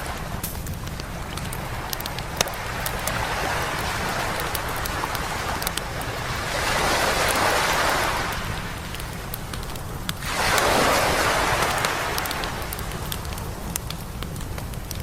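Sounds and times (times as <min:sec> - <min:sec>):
campfire crackling and popping: 0:00.0 - 0:15.0
waves breaking on a beach: 0:00.0 - 0:15.0.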